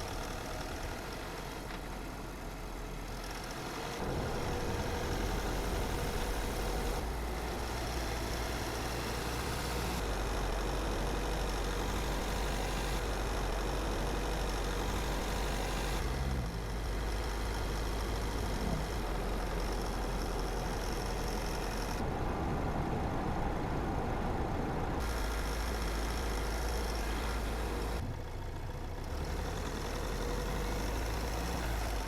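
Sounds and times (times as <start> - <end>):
car driving: 0.0 - 32.0
road noise: 0.0 - 32.0.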